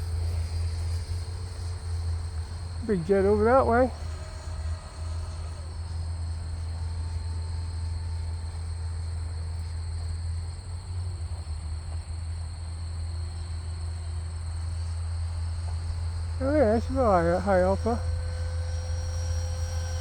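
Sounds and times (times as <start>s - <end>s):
continuous low rumble: 0.0s - 20.0s
crickets chirring: 0.0s - 20.0s.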